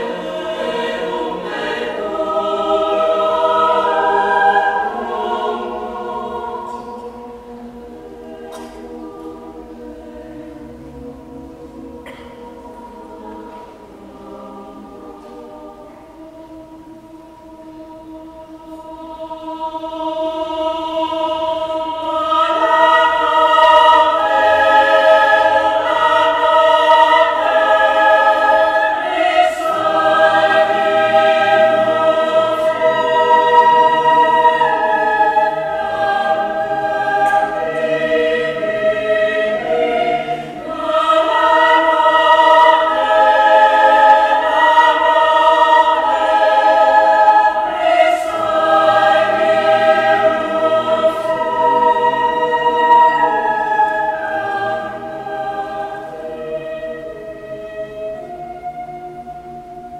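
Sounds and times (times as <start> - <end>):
mixed choir singing a cappella: 0.0 - 59.9.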